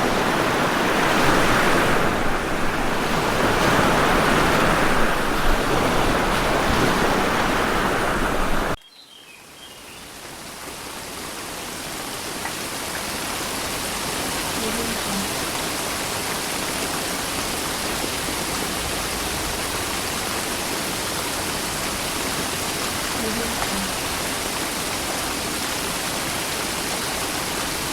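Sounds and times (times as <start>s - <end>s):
rush of flowing water: 0.0s - 8.8s, 9.4s - 27.9s
surf-like water noise: 0.0s - 8.8s, 9.9s - 27.9s.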